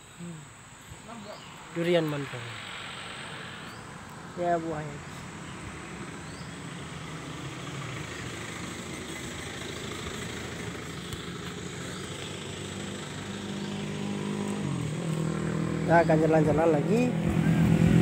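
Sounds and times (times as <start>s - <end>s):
small engine running: 1.8s - 18.0s.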